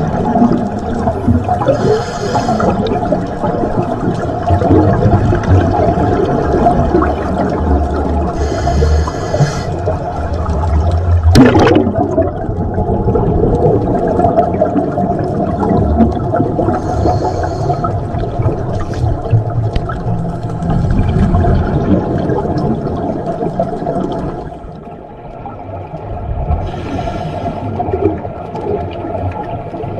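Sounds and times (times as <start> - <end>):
underwater bubbles gurgling: 0.0 - 29.9.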